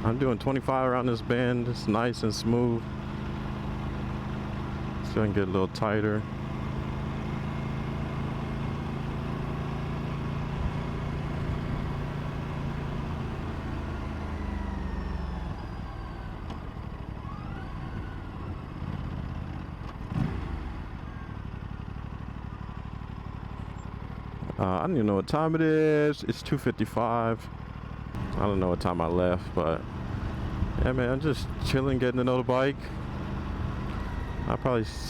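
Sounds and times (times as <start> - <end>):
motorcycle engine under throttle: 0.0 - 24.5, 27.5 - 35.0.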